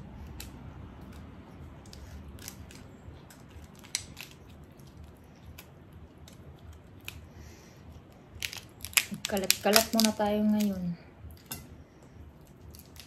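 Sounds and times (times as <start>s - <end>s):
faint low hum: 0.0s - 13.0s
crab shell cracking: 0.2s - 7.3s, 8.0s - 10.8s, 12.4s - 13.0s.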